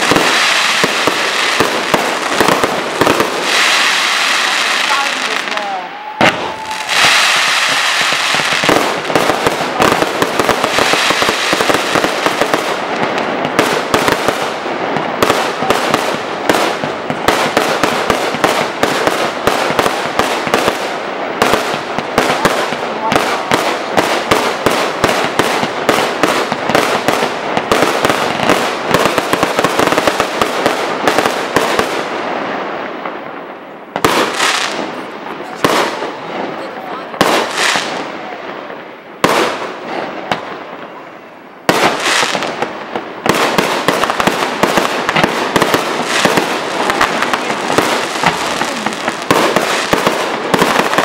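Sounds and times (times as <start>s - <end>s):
fireworks bangs and crackling: 0.0s - 51.0s.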